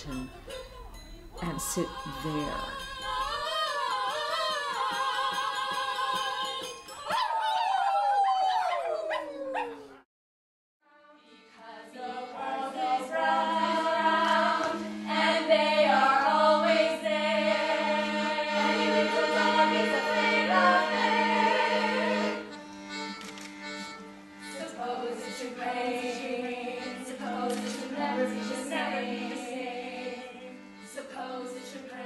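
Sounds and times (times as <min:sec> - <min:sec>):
women singing in harmony: 0:00.0 - 0:09.1, 0:11.5 - 0:22.6, 0:24.5 - 0:32.0.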